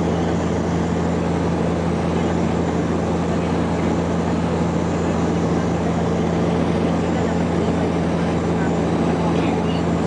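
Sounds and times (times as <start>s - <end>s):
engine and airflow hiss: 0.0s - 10.0s
propeller hum: 0.0s - 10.0s.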